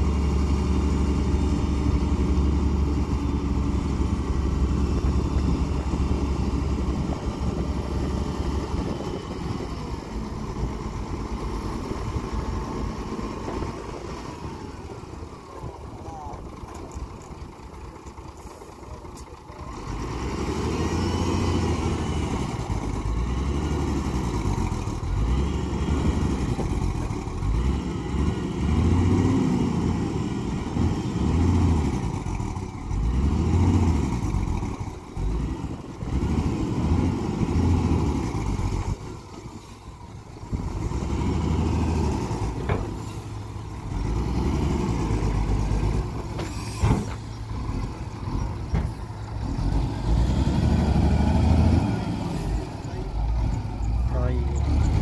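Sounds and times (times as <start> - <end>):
truck diesel engine revving: 0.0 - 55.0.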